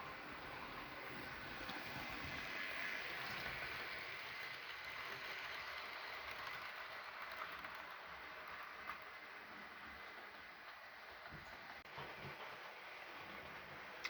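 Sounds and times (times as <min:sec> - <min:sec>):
model train motors whirring: 0:00.0 - 0:14.0.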